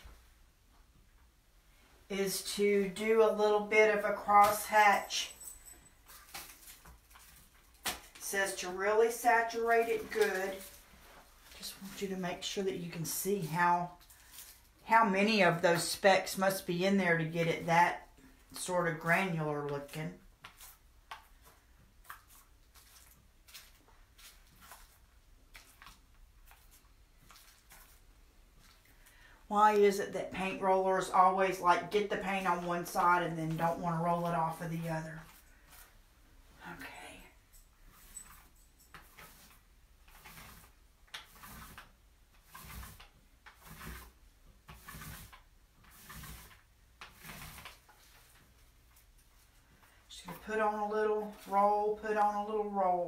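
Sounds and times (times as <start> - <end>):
paint roller wet swishes: 6.0 - 36.1, 37.8 - 53.0.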